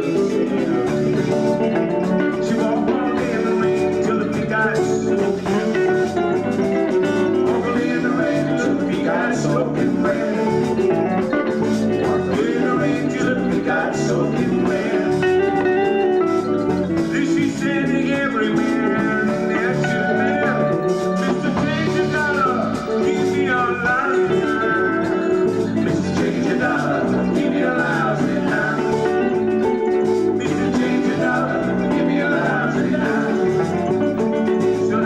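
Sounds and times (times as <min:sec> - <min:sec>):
country blues band playing: 0:00.0 - 0:35.0.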